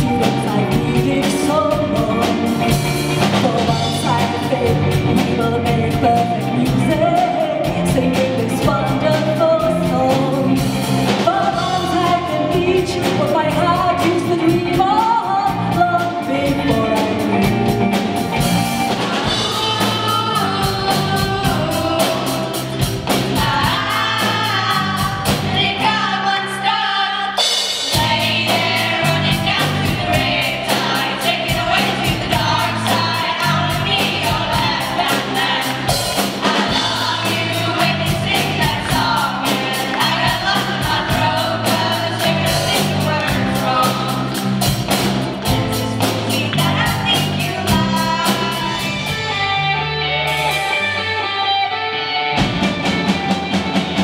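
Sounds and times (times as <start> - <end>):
person singing lead vocal: 0.0 - 18.0, 18.9 - 44.7, 45.5 - 50.8
drum kit: 0.0 - 54.0
live band playing: 0.0 - 54.0.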